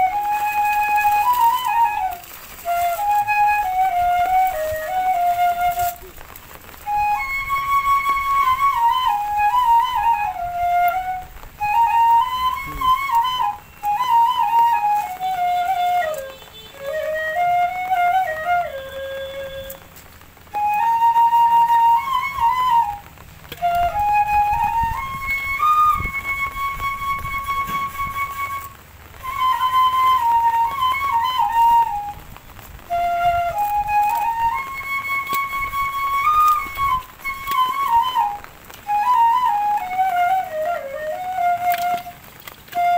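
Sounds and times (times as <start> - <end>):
solo flute melody: 0.0 - 42.9.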